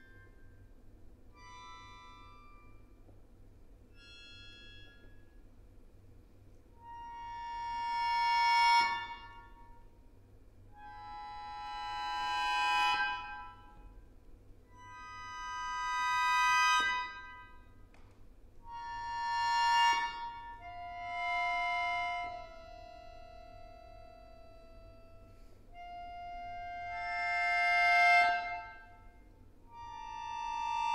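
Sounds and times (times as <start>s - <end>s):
accordion playing chords: 0.0s - 17.8s, 18.6s - 30.9s.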